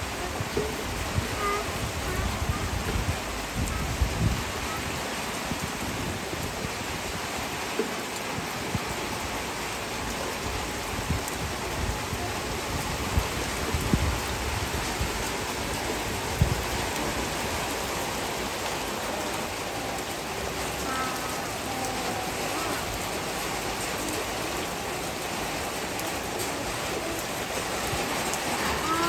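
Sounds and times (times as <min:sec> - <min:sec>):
rain falling on plants: 0:00.0 - 0:29.0
rain taps: 0:00.0 - 0:29.0.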